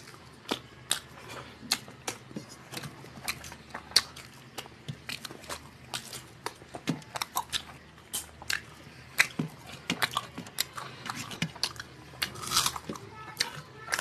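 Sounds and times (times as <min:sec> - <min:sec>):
people chewing with mouth clicks: 0:00.0 - 0:14.0.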